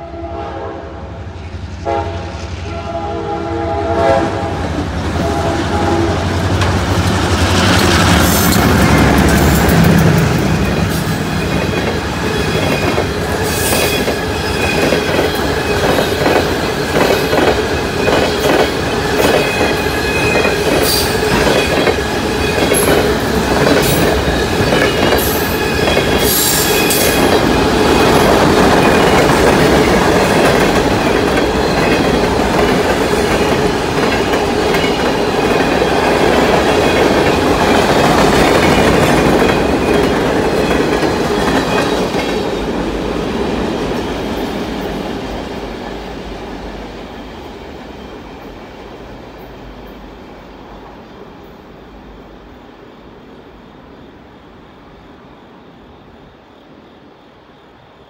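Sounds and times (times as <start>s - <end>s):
freight train rumble: 0.0s - 53.8s.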